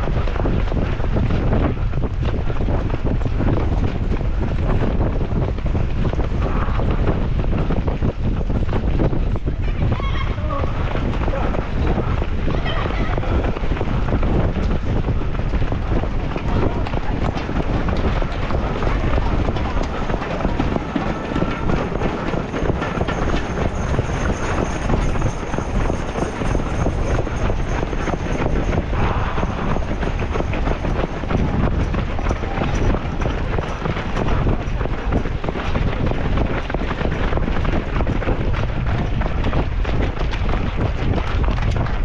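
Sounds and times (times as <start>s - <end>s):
running footsteps: 0.0s - 42.0s
wind buffeting microphone: 0.0s - 42.0s.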